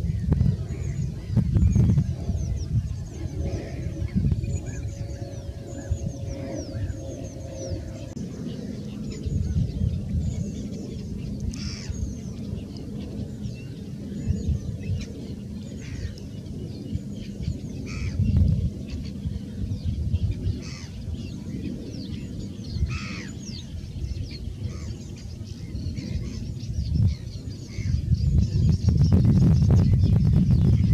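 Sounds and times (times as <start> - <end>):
birds chirping and singing: 0.0 - 30.9.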